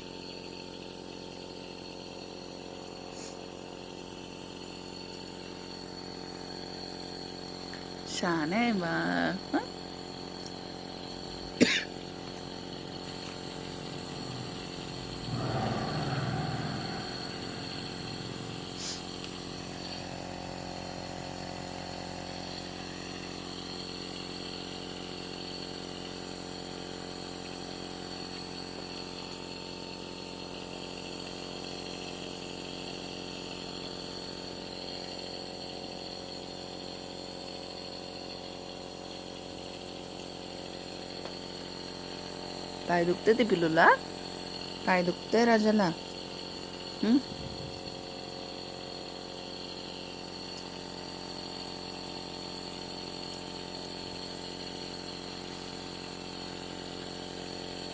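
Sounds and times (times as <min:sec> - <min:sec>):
nebulizer pump motor humming: 0:00.0 - 0:57.9.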